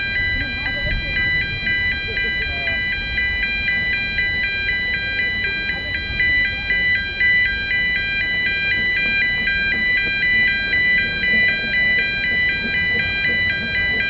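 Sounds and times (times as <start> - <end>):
locomotive low rumble: 0.0 - 14.0
two-tone crossing alarm beeping: 0.0 - 14.0.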